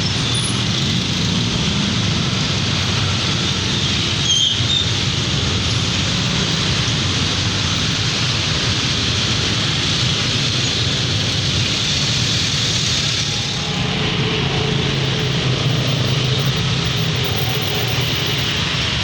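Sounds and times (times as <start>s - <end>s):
bus engine running: 0.0s - 19.0s
road noise: 0.0s - 19.0s.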